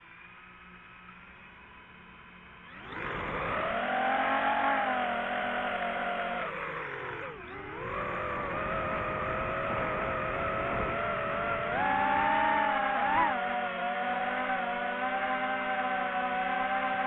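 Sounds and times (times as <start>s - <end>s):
drone propellers whining: 2.6s - 17.0s.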